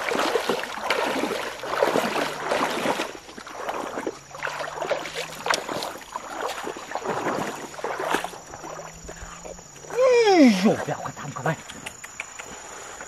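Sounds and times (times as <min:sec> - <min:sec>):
feet splashing in shallow water: 0:00.0 - 0:13.0
insect drone: 0:00.0 - 0:13.0
wet footsteps: 0:00.0 - 0:13.0.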